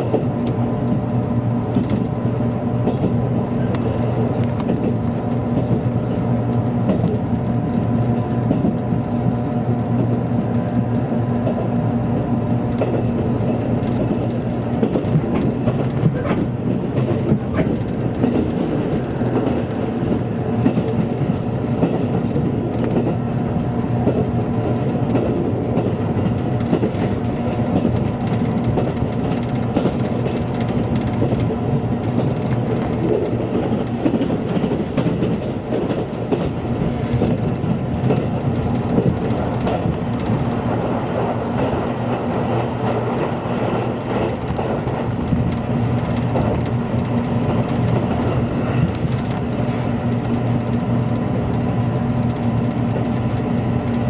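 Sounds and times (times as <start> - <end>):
train rumble from inside: 0.0 - 54.0
wheels clicking on rails: 0.0 - 54.0.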